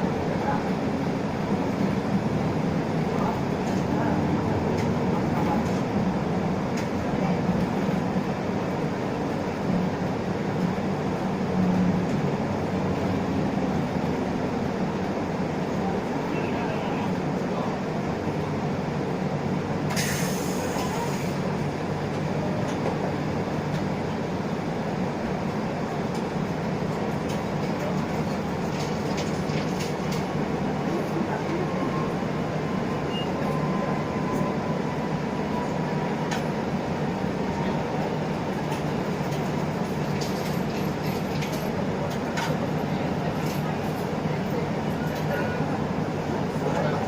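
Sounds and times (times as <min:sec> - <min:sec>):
bus diesel engine and road noise: 0:00.0 - 0:47.0.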